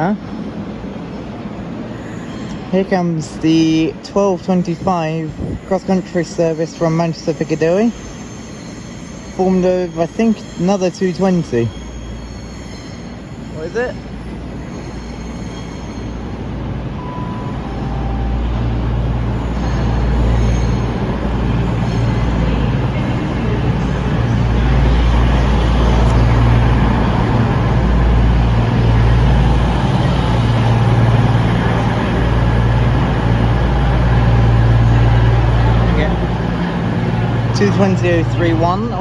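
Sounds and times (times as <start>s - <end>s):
train diesel engines droning: 0.0s - 39.0s.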